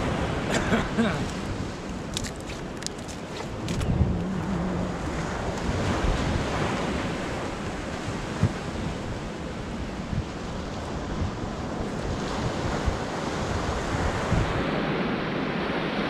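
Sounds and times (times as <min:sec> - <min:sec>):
sea waves washing on shore: 0:00.0 - 0:16.0
wind rumbling on microphone: 0:00.0 - 0:16.0.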